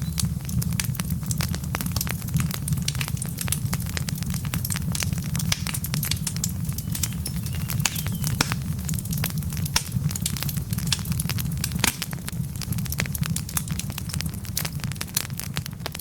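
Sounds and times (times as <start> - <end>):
logs crackling in fireplace: 0.0 - 16.0
low rumble of flames: 0.0 - 16.0.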